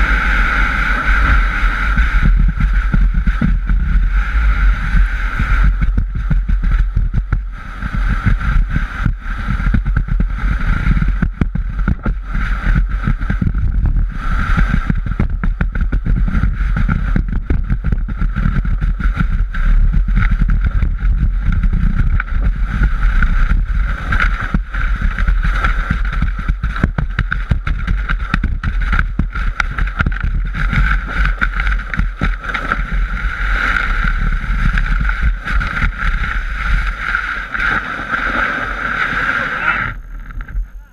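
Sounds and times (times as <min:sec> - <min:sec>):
board sliding and scraping over sand: 0:00.0 - 0:40.6
low rumble: 0:00.0 - 0:40.9
rapid bumps: 0:00.0 - 0:40.9.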